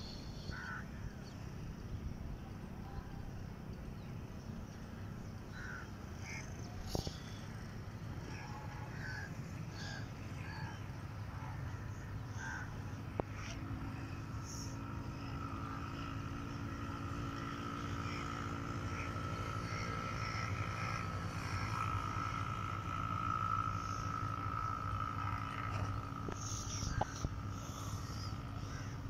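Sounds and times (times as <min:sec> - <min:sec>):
distant diesel locomotive drone: 0:00.0 - 0:29.0
high-pitched whine: 0:00.0 - 0:29.0.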